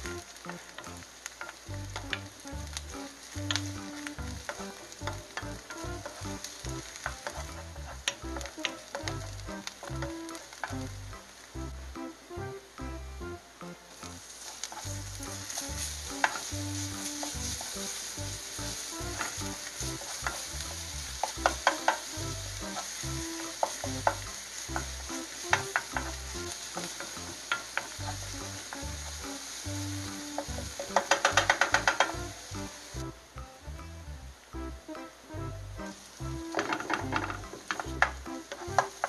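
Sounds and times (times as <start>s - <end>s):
wooden spoon tapping a pan: 0.0s - 11.0s, 14.0s - 32.8s, 36.5s - 39.0s
vegetables sizzling in oil: 0.0s - 33.8s, 34.4s - 39.0s.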